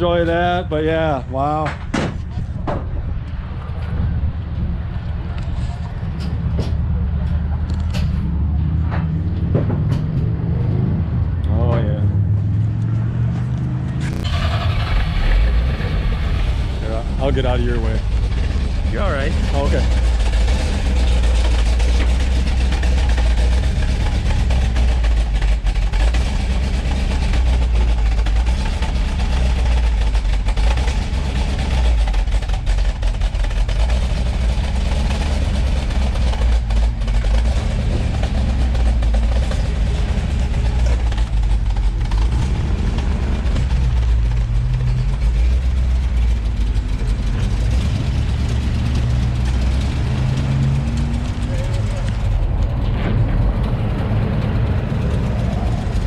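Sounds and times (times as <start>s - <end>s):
car engine deep rumble: 0.0s - 56.0s.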